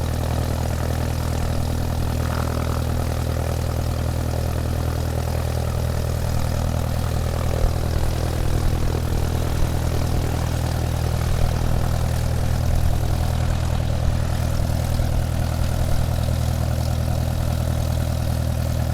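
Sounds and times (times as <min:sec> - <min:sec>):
model airplane motor humming: 0:00.0 - 0:18.9.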